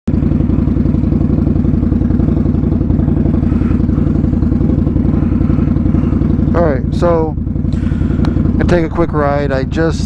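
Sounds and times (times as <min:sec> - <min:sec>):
motorcycle engine running: 0:00.1 - 0:10.0.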